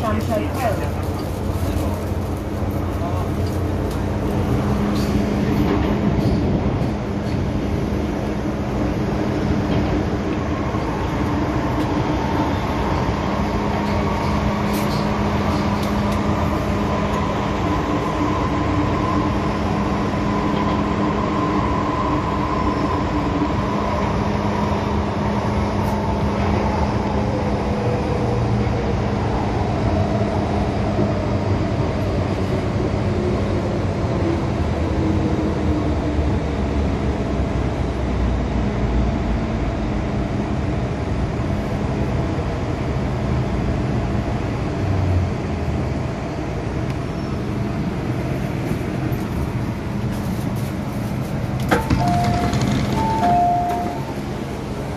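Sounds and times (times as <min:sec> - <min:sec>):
train wheel and track rumble: 0:00.0 - 0:54.9.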